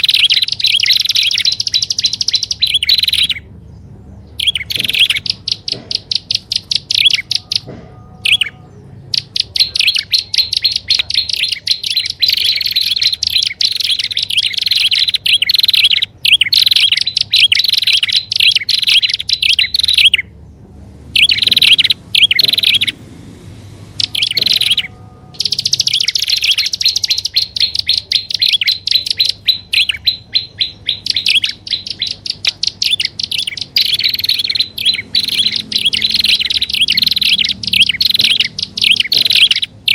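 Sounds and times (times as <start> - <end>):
bird sharp high chirps: 0.0 - 20.4, 21.1 - 23.0, 23.9 - 39.9.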